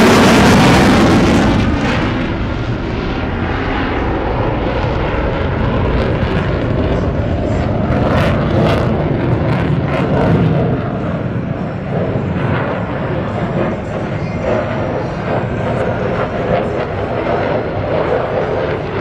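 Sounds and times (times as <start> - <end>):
aircraft engine rumble: 0.0 - 19.0.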